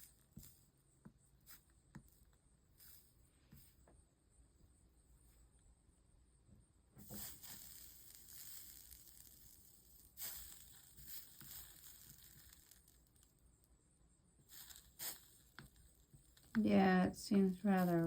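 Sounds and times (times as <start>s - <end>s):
soldering flux crackling sizzle: 0.0s - 4.0s, 6.9s - 18.0s
soft hiss: 0.0s - 18.0s.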